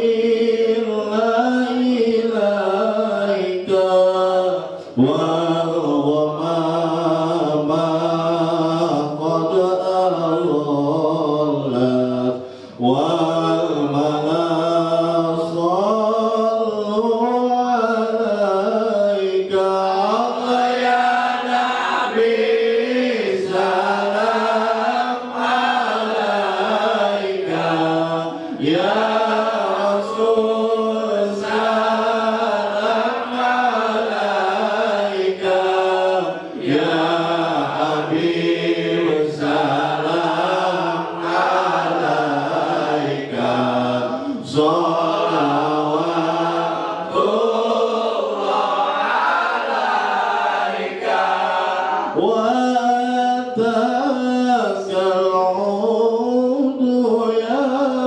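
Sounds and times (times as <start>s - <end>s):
person singing into a microphone: 0.0s - 21.3s, 22.0s - 47.3s, 52.1s - 58.0s
men chanting a devotional song: 0.0s - 58.0s.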